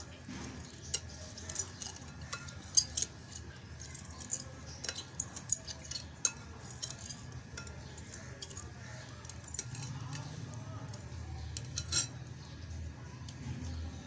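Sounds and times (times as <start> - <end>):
spoon clinking glass bowl: 0.0 - 12.5.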